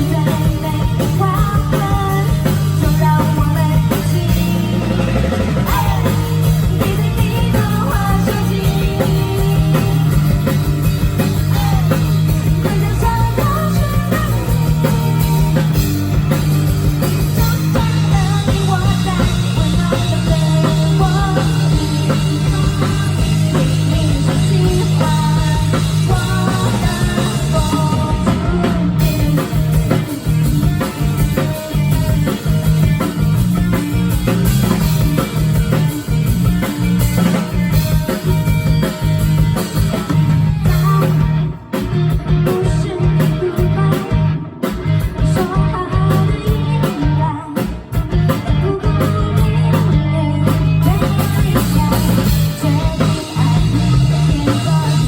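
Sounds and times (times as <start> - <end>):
woman singing: 0.0 - 33.0, 40.5 - 55.0
drum kit: 0.0 - 55.0
electric guitar: 0.0 - 55.0.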